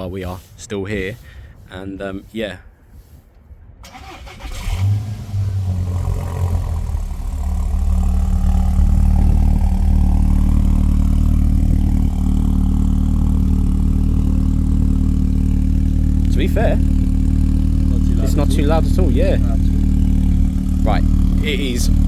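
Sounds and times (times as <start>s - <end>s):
car engine starting and idling: 3.8s - 22.0s.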